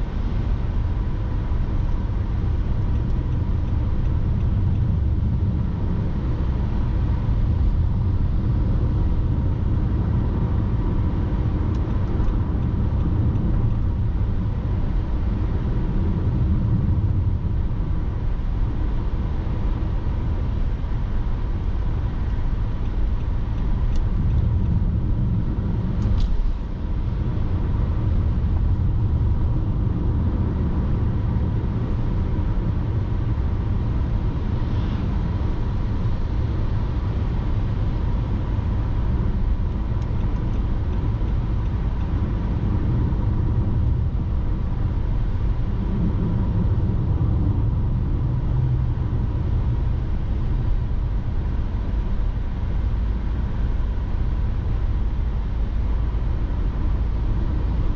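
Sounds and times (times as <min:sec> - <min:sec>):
tyres and engine rumble: 0:00.0 - 0:57.9.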